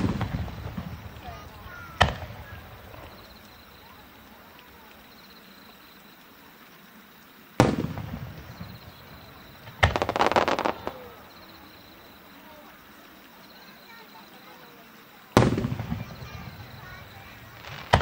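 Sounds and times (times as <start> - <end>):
firework crackling pops: 0.0 - 6.4, 7.6 - 14.6, 15.2 - 18.0.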